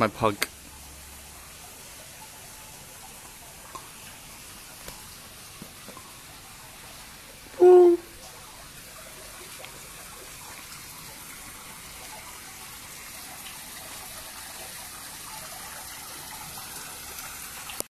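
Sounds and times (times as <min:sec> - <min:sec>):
running water: 0:00.0 - 0:17.9.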